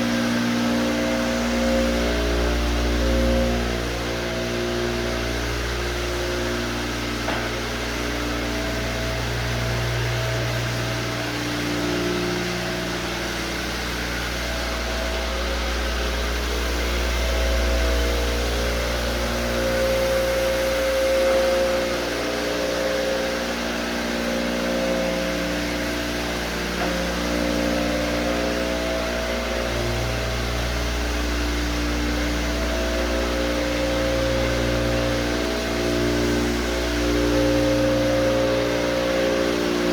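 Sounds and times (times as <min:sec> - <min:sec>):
floor machine humming: 0:00.0 - 0:39.9.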